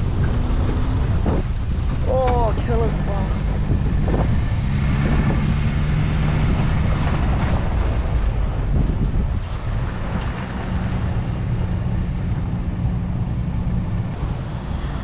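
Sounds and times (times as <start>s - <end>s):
suv engine running: 0.0s - 15.0s
tyres on dirt track: 0.0s - 15.0s
wind noise: 0.0s - 15.0s.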